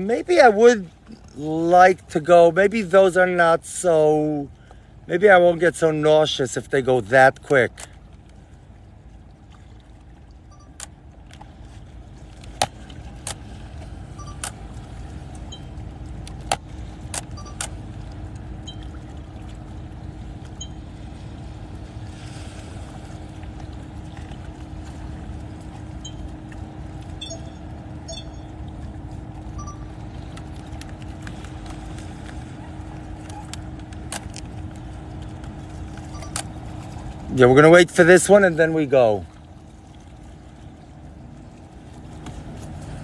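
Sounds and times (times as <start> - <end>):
distant motorboat engine droning: 0.0 - 43.0.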